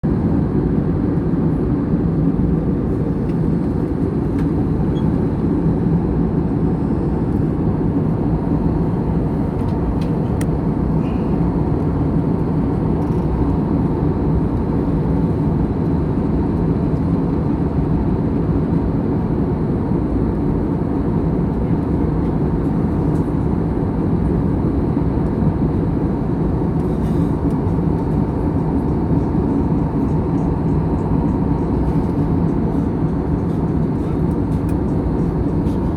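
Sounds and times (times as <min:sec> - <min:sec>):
vehicle engine rumble and hum: 0:01.0 - 0:17.8, 0:18.9 - 0:35.9.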